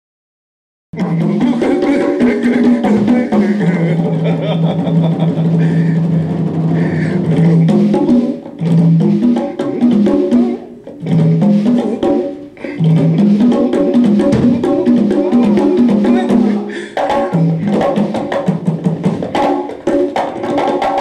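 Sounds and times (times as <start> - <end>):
congas played by hand: 1.0 - 21.0.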